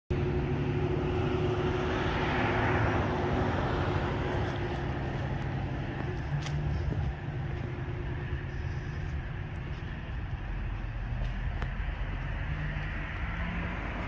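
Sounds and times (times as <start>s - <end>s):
engine passing by: 0.1s - 14.0s.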